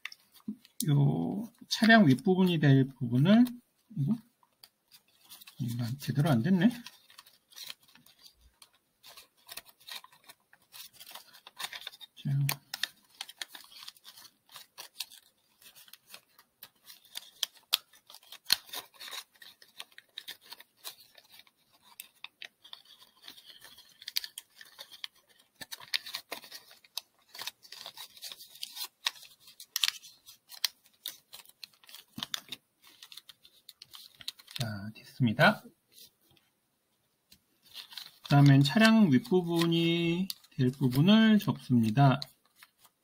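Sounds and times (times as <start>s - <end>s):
paper being folded and crackling: 0.0s - 36.5s, 37.3s - 43.0s.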